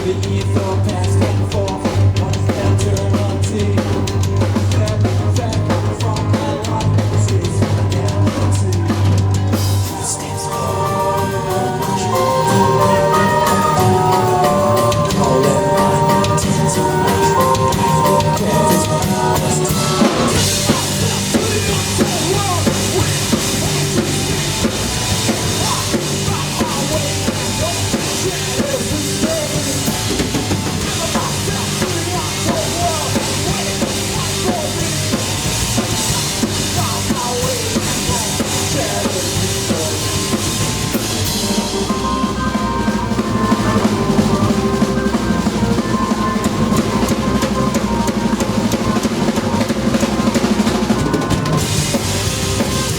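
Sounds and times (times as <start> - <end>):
bass drum: 0.0 - 52.9
live band playing: 0.0 - 52.9.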